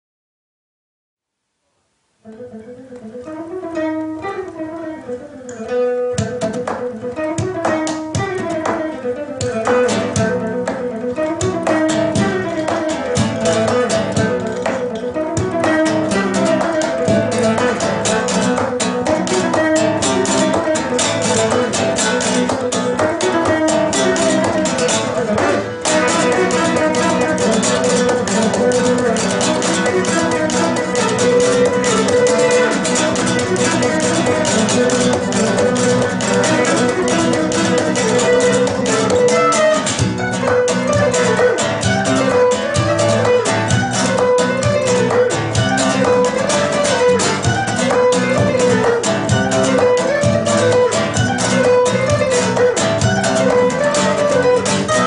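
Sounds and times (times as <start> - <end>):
two acoustic guitars playing: 2.2 - 55.0.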